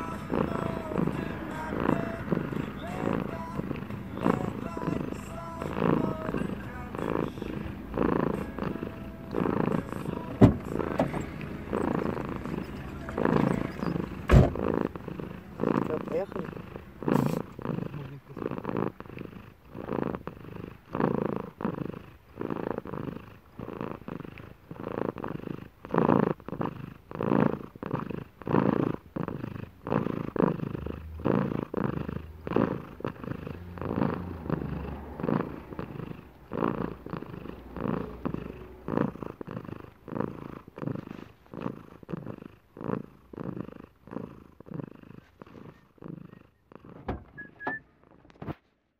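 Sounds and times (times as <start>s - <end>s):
cat purring: 0.0s - 48.4s.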